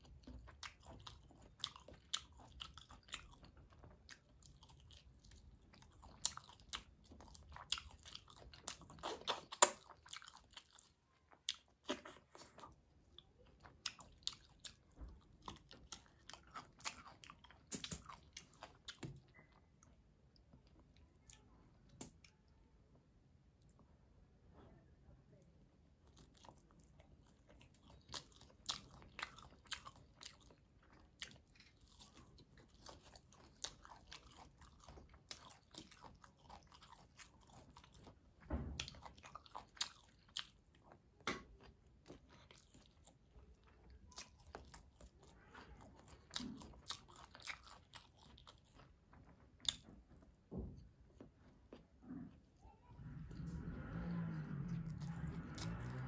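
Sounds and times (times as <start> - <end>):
wet chewing: 0.0 - 22.4, 26.0 - 50.4, 53.2 - 56.0.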